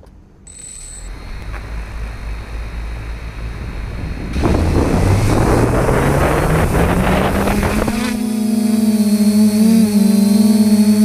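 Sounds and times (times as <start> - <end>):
drone motors humming: 0.0 - 11.0
propeller wash buffeting microphone: 1.1 - 10.2.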